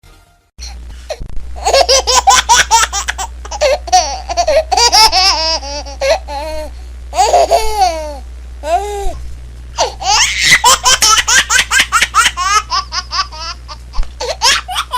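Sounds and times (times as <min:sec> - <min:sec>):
steady low hum: 0:00.6 - 0:14.9
baby giggling: 0:01.6 - 0:06.5, 0:07.2 - 0:09.2, 0:09.8 - 0:14.9.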